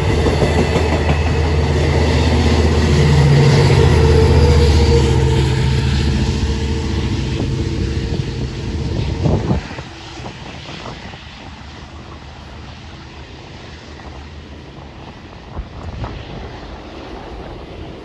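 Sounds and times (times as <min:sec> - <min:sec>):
train passing with low drone: 0:00.0 - 0:18.0
wind noise: 0:00.0 - 0:18.0.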